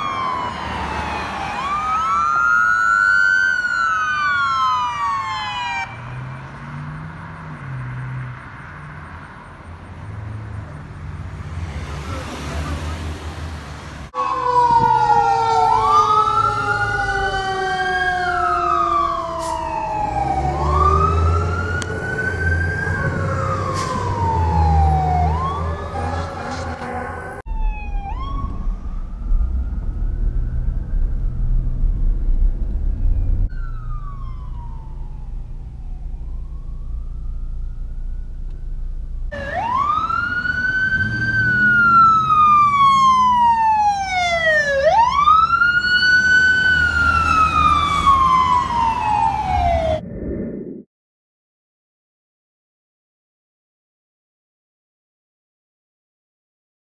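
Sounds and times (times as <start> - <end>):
emergency sirens wailing: 0.0 - 9.5, 11.4 - 50.2
passing traffic rumble: 0.0 - 50.6.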